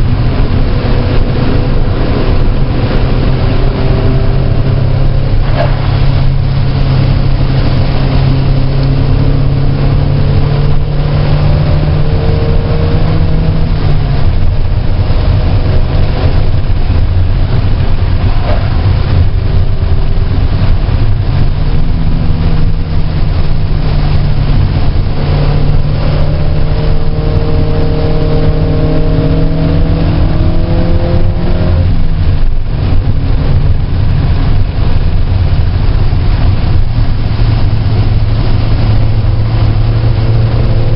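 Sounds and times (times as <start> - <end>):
race car engine: 0.0 - 40.9
road and wind noise: 0.0 - 40.9.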